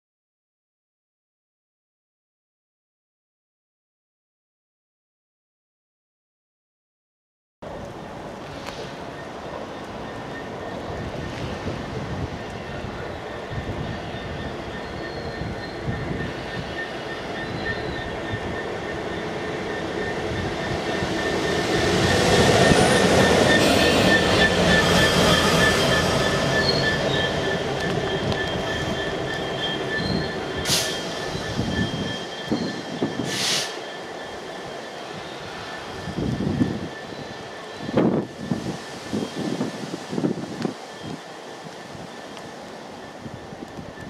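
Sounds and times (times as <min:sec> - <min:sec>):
diesel locomotive passing: 0:07.7 - 0:44.0.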